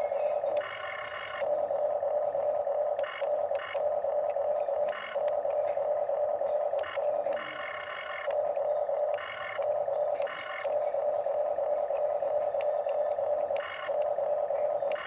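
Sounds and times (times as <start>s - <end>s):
gear motors whining: 0.0s - 15.0s
toy motor hum: 0.0s - 15.0s.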